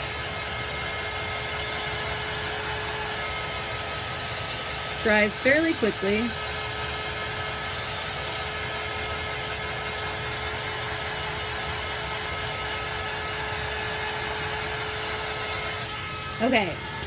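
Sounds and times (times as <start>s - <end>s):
heat gun fan whine: 0.0s - 17.0s.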